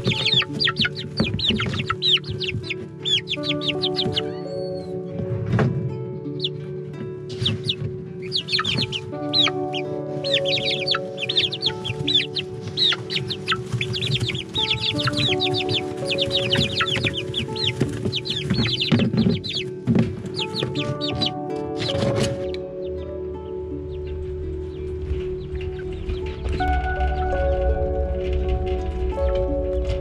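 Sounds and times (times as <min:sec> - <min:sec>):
background music: 0:00.0 - 0:30.0
chicks peeping: 0:00.0 - 0:30.0.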